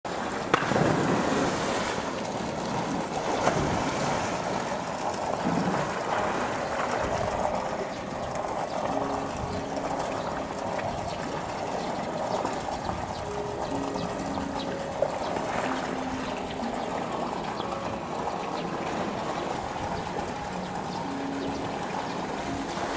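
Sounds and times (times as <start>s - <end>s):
water splashing and churning: 0.1s - 22.9s.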